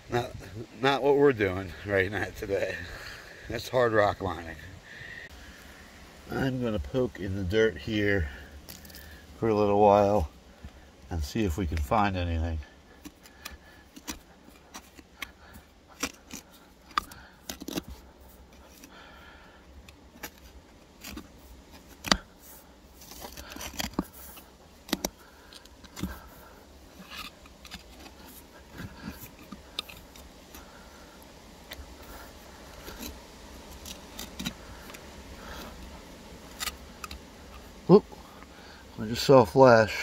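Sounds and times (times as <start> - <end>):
hand tool scraping soil: 6.3 - 40.0.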